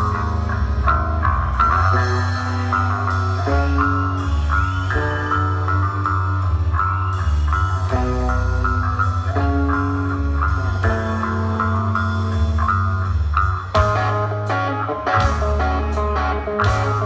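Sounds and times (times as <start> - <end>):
drums and cymbals: 0.0 - 17.0
electric guitar riff: 0.0 - 17.0
heavy bass guitar: 0.0 - 17.0.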